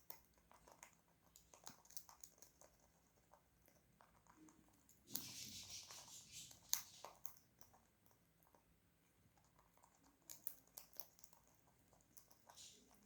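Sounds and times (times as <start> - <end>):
parakeet beak clicking on food: 0.0 - 8.7, 9.3 - 13.0.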